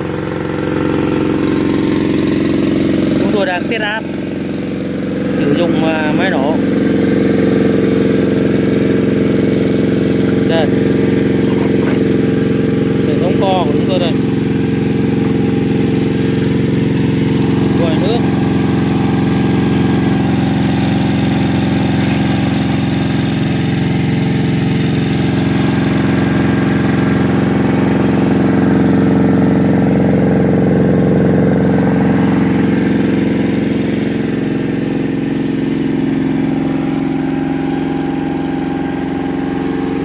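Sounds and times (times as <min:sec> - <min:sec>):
petrol generator running: 0:00.0 - 0:40.0.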